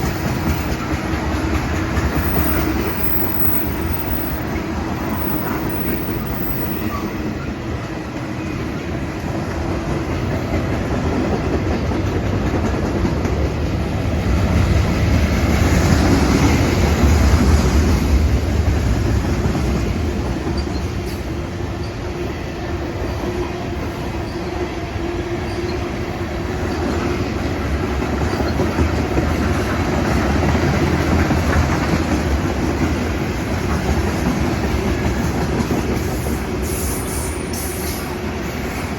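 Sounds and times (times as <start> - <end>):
freight train wheels clacking: 0.0 - 22.2, 26.6 - 38.9.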